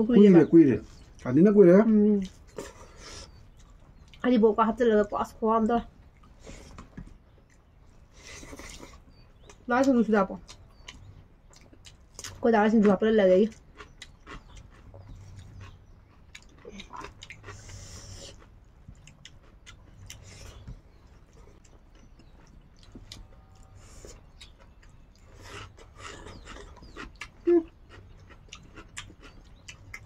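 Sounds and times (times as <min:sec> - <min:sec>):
chewing and lip smacking: 0:02.2 - 0:04.3, 0:05.8 - 0:30.0.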